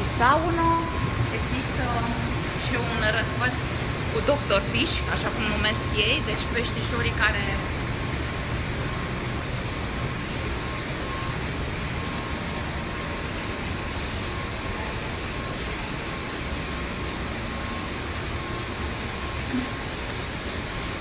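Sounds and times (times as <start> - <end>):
rushing room noise: 0.0 - 21.0.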